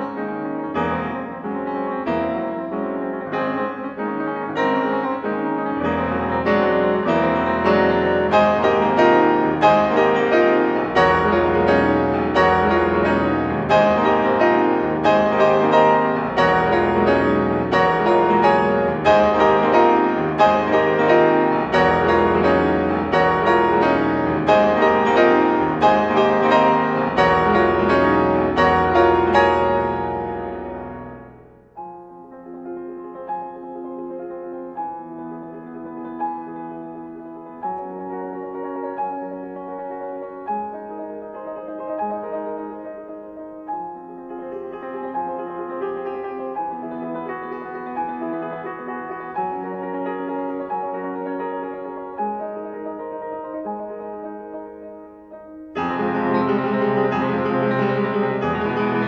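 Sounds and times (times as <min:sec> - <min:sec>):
grand piano playing: 0:00.0 - 0:59.0.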